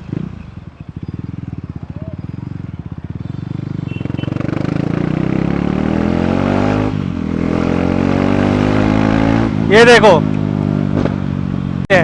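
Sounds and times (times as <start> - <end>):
motorcycle engine accelerating: 0.0 - 11.9.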